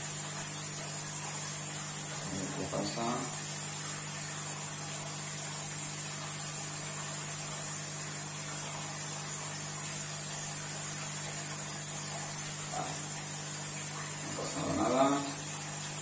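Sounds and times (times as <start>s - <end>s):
aquarium equipment hum and hiss: 0.0s - 16.0s.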